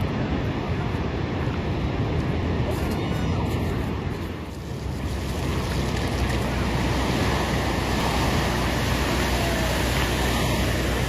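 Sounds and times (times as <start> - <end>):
strong wind buffeting microphone: 0.0 - 11.0
surging sea: 0.0 - 11.0.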